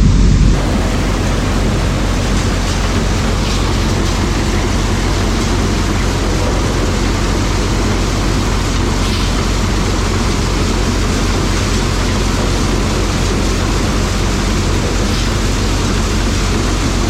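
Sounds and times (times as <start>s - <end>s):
corn sheller mechanical din: 0.0s - 17.0s
low engine hum: 0.0s - 17.0s.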